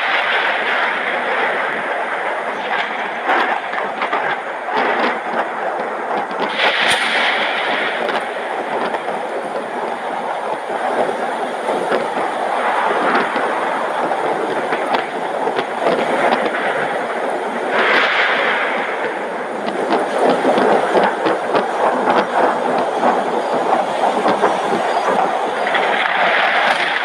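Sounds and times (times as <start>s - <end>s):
heavy rain pouring: 0.0s - 27.0s
thunderstorm: 0.0s - 27.0s.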